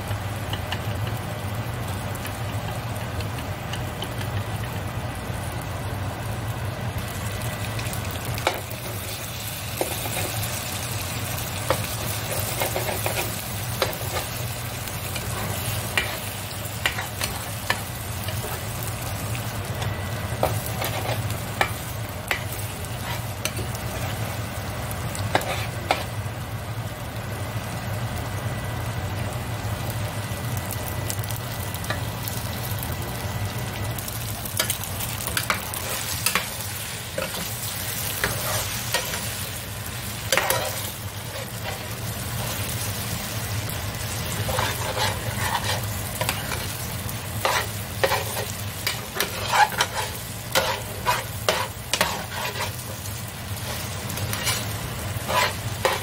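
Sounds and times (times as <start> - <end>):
eggs and noodles sizzling in pan: 0.0 - 56.0.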